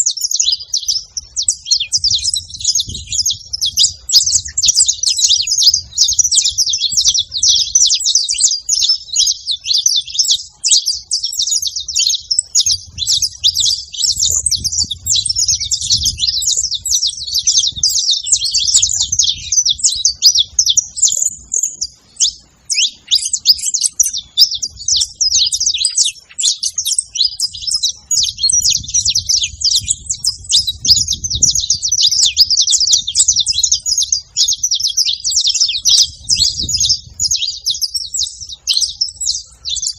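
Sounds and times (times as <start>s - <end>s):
finch chirping and singing: 0.0s - 39.9s.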